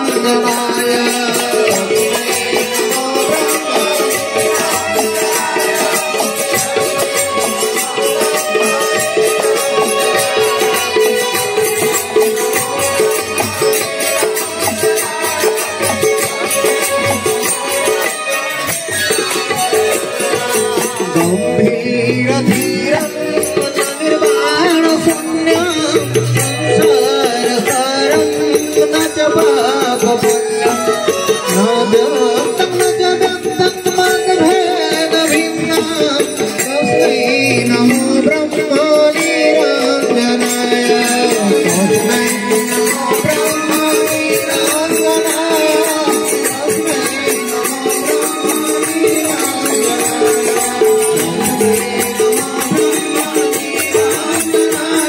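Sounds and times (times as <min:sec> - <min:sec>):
rattling hand percussion: 0:00.0 - 0:55.0
voices singing: 0:00.0 - 0:55.0.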